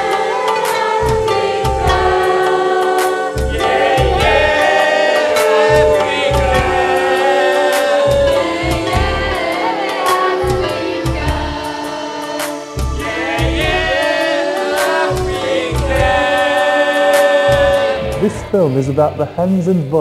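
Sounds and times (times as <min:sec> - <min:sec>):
steady drum beat: 0:00.0 - 0:19.0
mixed choir singing: 0:00.0 - 0:19.6.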